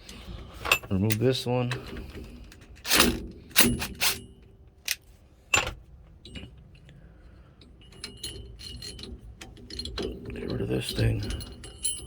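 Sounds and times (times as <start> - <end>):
metal parts clinking: 0.6 - 7.0, 7.6 - 12.0.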